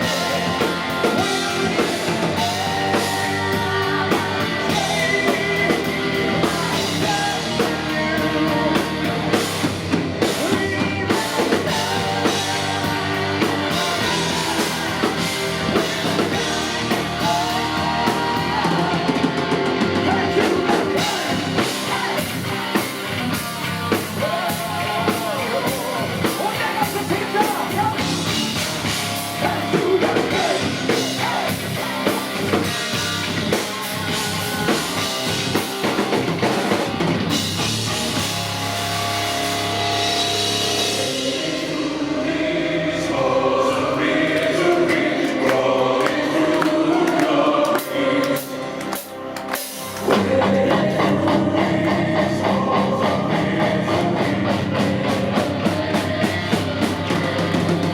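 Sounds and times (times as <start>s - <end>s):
heavy metal band playing live: 0.0s - 57.9s.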